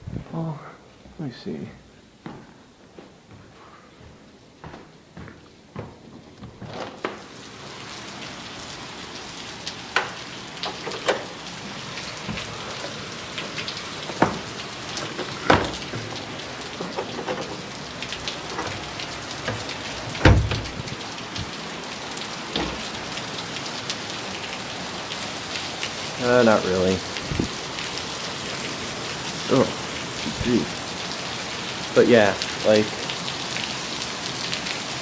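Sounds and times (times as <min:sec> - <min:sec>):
water drips and splats: 0:06.4 - 0:35.0
heavy rain hissing: 0:06.7 - 0:35.0.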